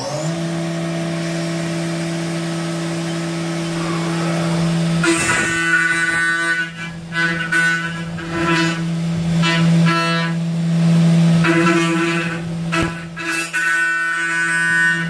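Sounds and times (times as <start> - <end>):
milling cutter whine: 0.0 - 15.0
spindle hum: 1.0 - 15.0.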